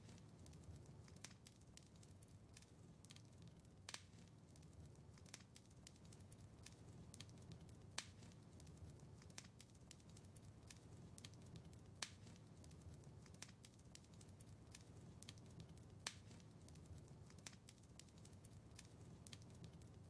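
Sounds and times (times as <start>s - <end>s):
fire popping: 0.0s - 20.0s
low rumble of fire: 0.0s - 20.0s
wood fire crackling: 0.0s - 20.0s.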